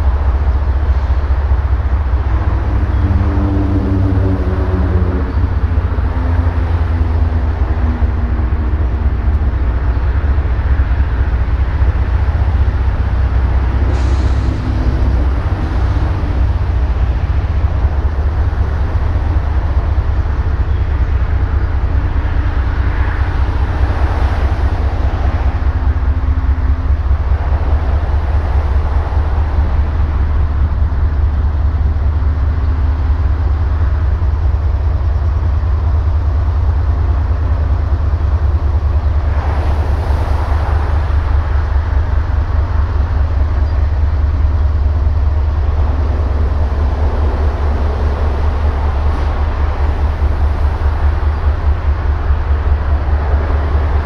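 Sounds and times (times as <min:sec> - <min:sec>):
diesel locomotive rumbling: 0:00.0 - 0:54.0.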